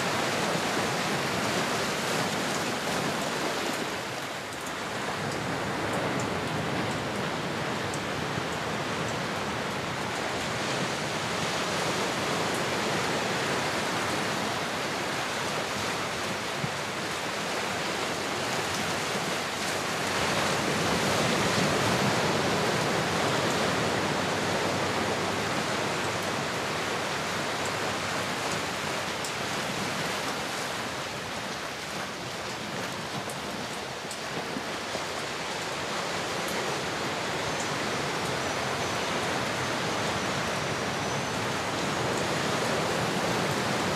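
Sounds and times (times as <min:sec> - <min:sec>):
ocean waves washing: 0:00.0 - 0:43.9.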